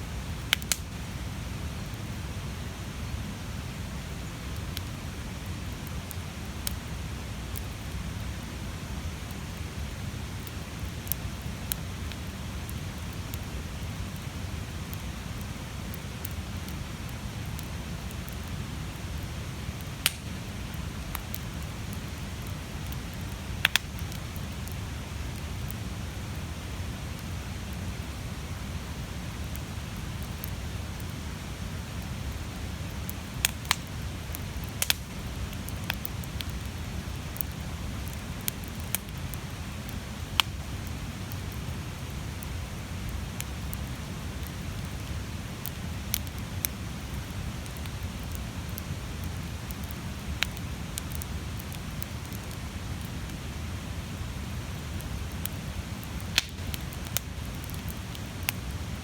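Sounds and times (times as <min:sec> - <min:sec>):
burning wood crackling and popping: 0:00.0 - 0:59.0
campfire flames rushing: 0:00.0 - 0:59.0.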